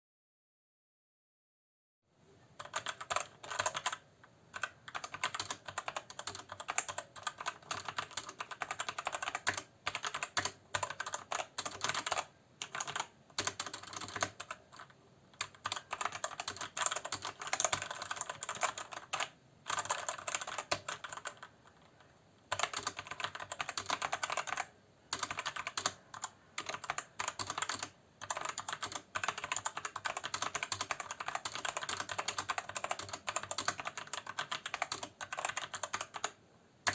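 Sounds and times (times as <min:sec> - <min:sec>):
mechanical keyboard typing: 0:02.6 - 0:36.9.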